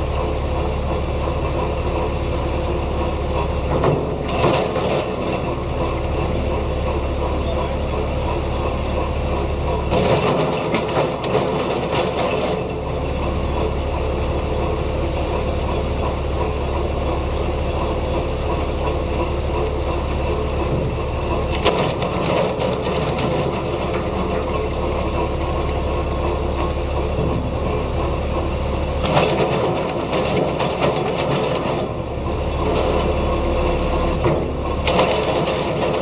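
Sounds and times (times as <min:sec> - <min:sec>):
wood chipper running: 0:00.0 - 0:36.0.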